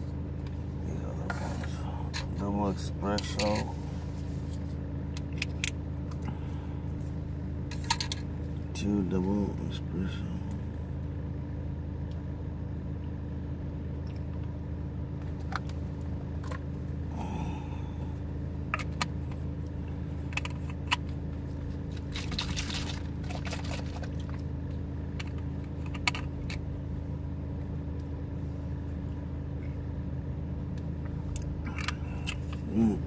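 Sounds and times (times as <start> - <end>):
parked car engine humming: 0.0 - 33.0.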